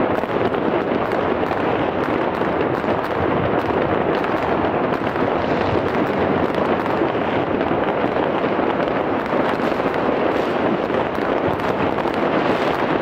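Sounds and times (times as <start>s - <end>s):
fireworks and firecrackers crackling: 0.0s - 13.0s.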